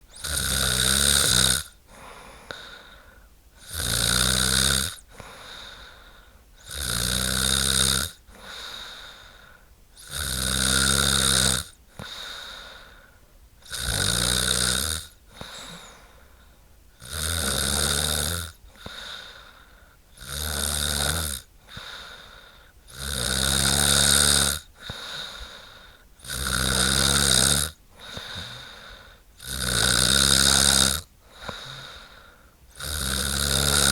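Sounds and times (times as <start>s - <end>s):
woman snoring: 0.1s - 3.0s, 3.6s - 6.0s, 6.6s - 9.3s, 10.0s - 12.9s, 13.6s - 16.2s, 17.0s - 33.9s.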